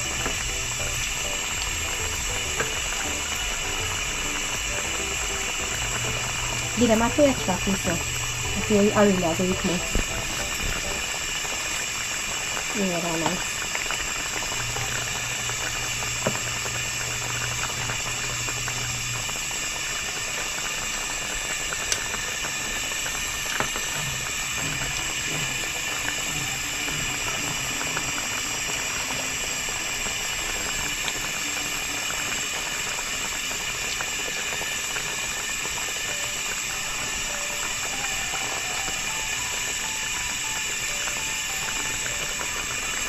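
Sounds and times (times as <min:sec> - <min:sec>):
sauce simmering and bubbling: 0:00.0 - 0:43.0.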